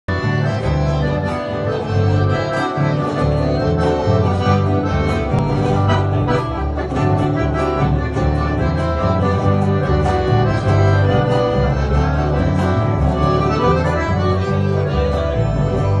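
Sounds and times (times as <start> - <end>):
accordion melody: 0.1 - 16.0
bass line: 0.1 - 16.0
strummed acoustic guitars: 0.1 - 16.0.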